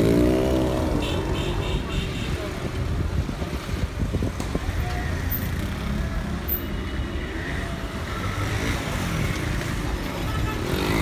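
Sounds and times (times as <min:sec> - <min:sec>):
vehicle engines rumbling: 0:00.0 - 0:11.0.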